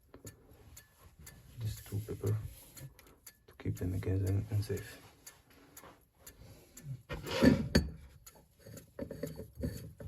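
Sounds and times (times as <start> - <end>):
clock ticking: 0.0 - 10.0.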